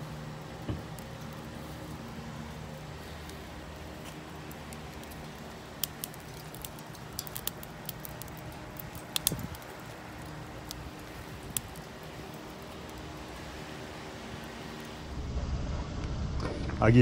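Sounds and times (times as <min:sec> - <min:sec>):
charcoal crackling and popping: 0:00.0 - 0:15.4
low machine hum: 0:00.0 - 0:17.0.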